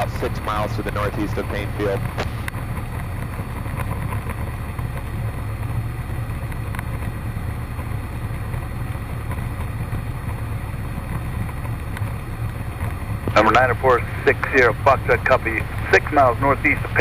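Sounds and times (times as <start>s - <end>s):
aircraft engine and propeller droning: 0.0s - 17.0s.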